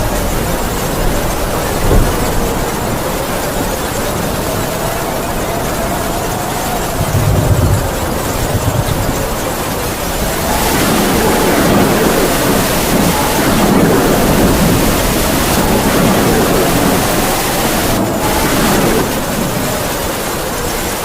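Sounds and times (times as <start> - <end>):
heavy rain falling: 0.0 - 21.0
howling wind gusts: 0.0 - 21.0.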